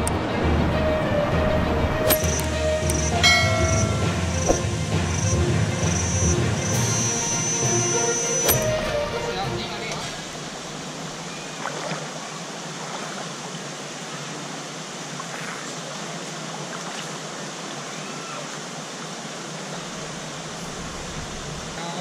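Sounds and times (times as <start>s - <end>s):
stream flowing over rocks: 1.5s - 22.0s.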